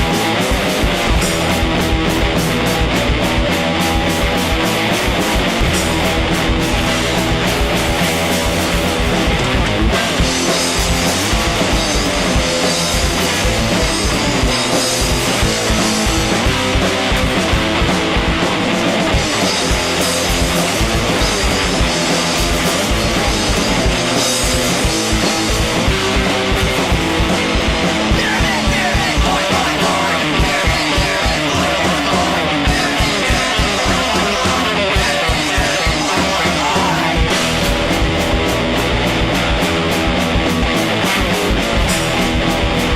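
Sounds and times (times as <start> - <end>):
bass guitar: 0.0 - 42.9
electric guitar: 0.0 - 42.9
fast drumming: 0.0 - 42.9
gliding lead guitar: 0.0 - 42.9.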